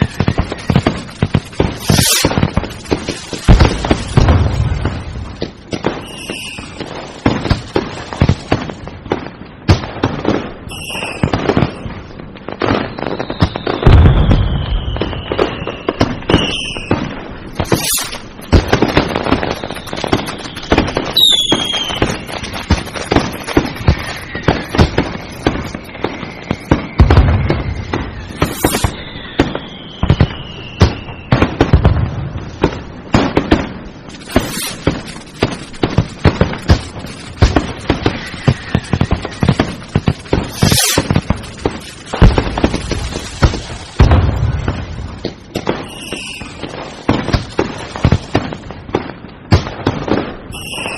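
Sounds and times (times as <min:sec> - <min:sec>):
fireworks whistles falling: 0:00.0 - 0:08.8, 0:10.2 - 0:12.0, 0:12.6 - 0:31.9, 0:34.0 - 0:49.1, 0:49.7 - 0:50.9
deep fireworks booms: 0:00.0 - 0:50.9
fireworks crackling bangs: 0:00.0 - 0:50.9.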